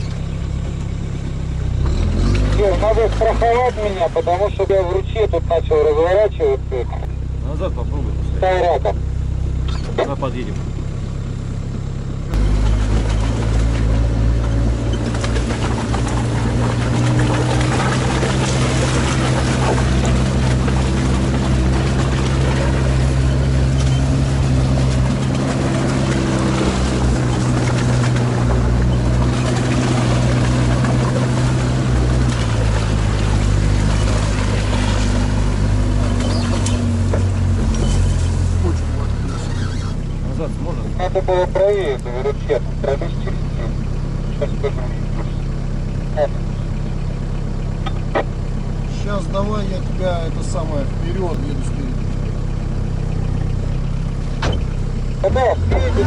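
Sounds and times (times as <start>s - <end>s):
atv engine droning: 0.0s - 56.0s.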